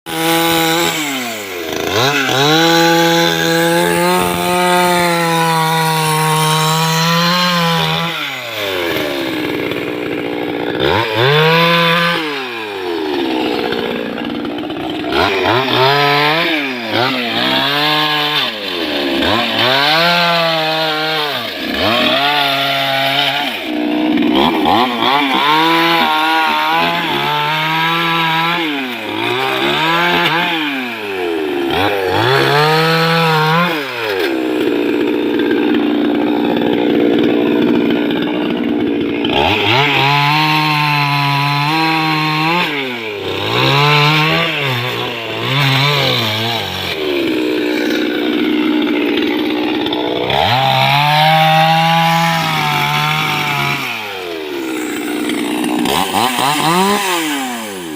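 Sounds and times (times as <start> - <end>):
chainsaw cutting wood: 0.1 - 57.9.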